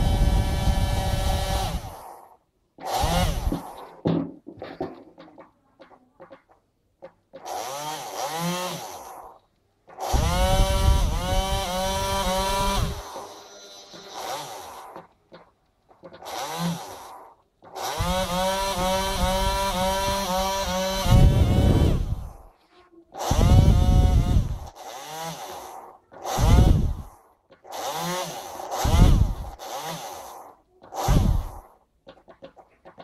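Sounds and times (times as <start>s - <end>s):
small electric motors whirring: 0.0s - 4.0s, 7.4s - 22.6s, 23.2s - 33.0s.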